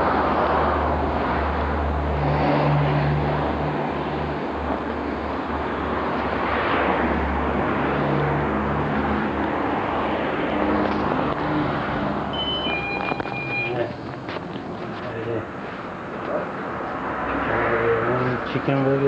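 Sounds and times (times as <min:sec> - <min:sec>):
traffic engine hum: 0:00.0 - 0:19.0
vehicle passing: 0:00.0 - 0:19.0.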